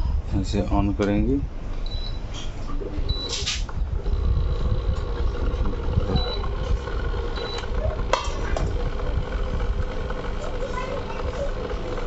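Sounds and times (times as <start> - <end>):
cooling fan running: 0.0 - 12.0
cooktop humming: 2.3 - 12.0.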